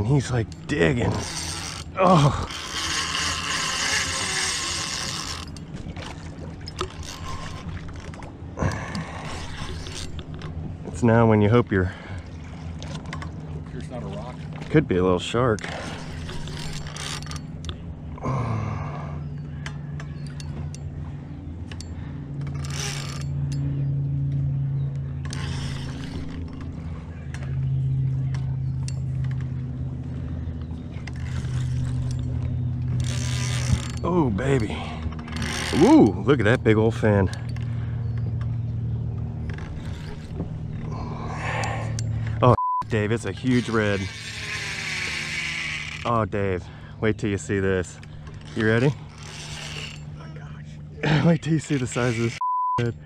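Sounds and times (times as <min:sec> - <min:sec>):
fishing reel drag buzzing: 0:00.0 - 0:10.8, 0:15.5 - 0:52.4
low rumble: 0:00.0 - 0:44.7
boat engine running: 0:00.0 - 0:53.0.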